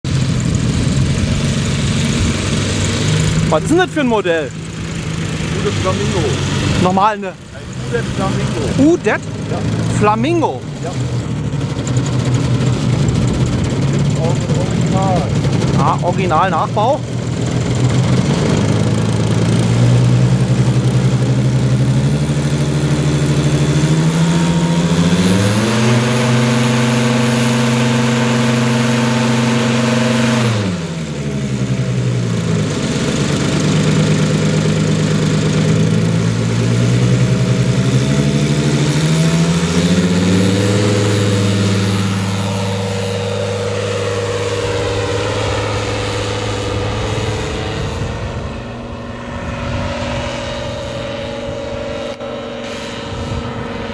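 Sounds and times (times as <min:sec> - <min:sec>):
model plane engine revving: 0:00.1 - 0:53.9.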